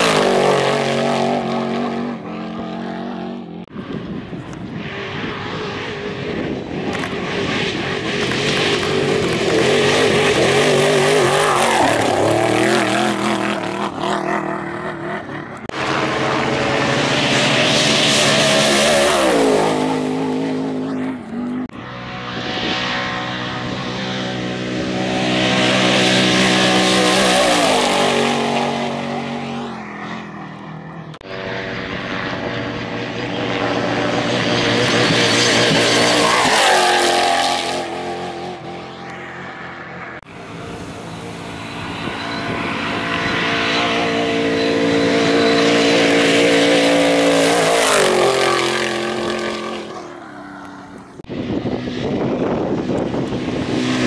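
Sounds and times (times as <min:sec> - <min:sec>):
trucks racing past: 0:00.0 - 0:54.0.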